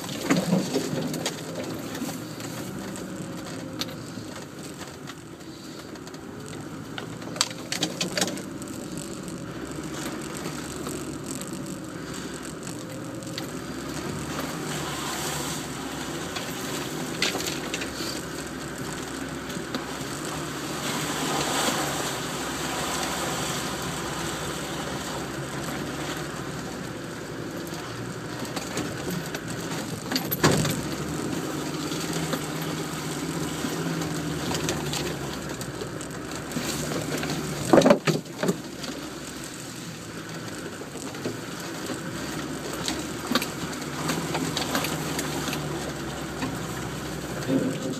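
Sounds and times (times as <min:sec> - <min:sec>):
off-road vehicle engine running: 0:00.0 - 0:47.9.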